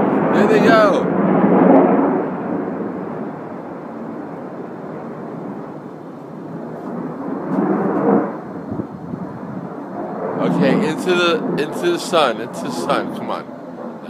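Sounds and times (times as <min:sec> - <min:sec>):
jets passing overhead: 0:00.0 - 0:14.0.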